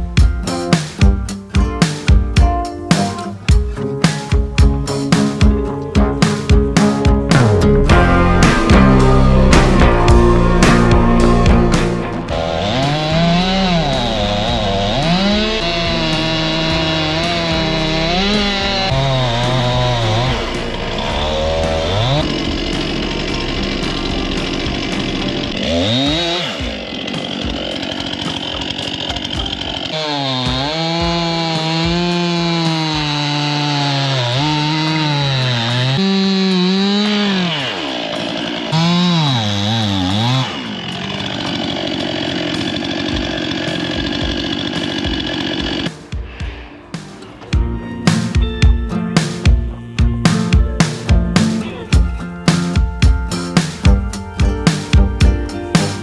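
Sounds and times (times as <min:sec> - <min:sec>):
chainsaw revving and cutting wood: 0:00.0 - 0:46.3, 0:47.0 - 0:56.0.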